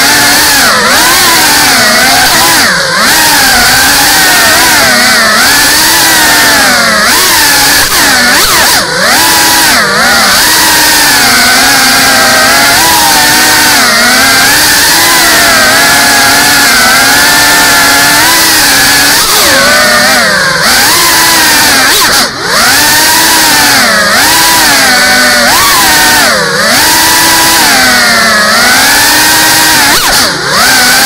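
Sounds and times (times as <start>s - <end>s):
drone motors whining: 0.0s - 31.0s.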